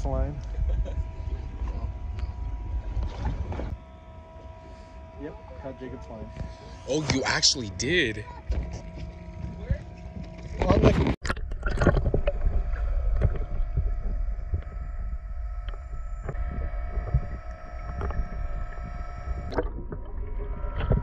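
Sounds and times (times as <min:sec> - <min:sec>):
faint hum tones: 0:00.0 - 0:21.0
low underwater rumble: 0:00.0 - 0:21.0.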